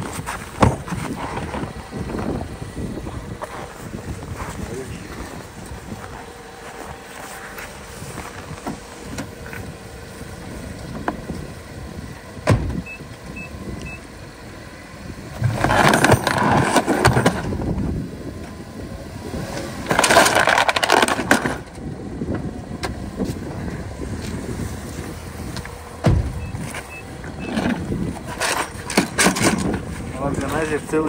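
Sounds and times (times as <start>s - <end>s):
engine and tyre noise: 0.0s - 31.0s.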